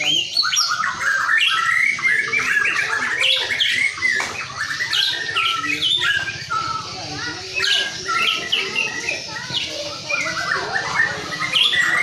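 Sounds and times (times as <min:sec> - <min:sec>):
bird singing chirps and whistles: 0:00.0 - 0:12.0.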